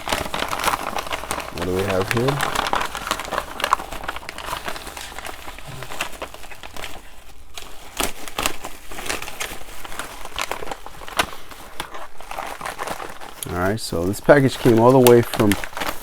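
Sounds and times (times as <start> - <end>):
packaging rustling and crinkling: 0.0 - 16.0.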